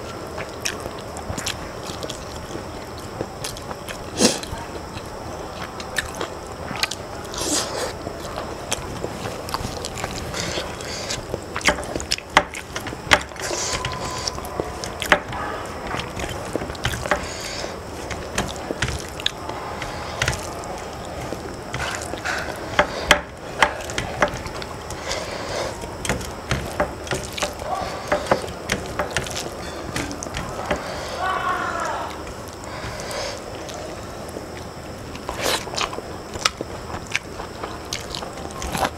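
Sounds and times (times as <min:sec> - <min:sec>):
wet squishing of rice: 0:00.0 - 0:38.9.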